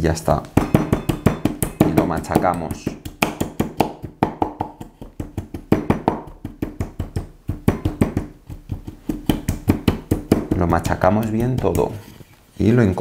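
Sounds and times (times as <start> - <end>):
pestle pounding in a mortar: 0.5 - 12.0.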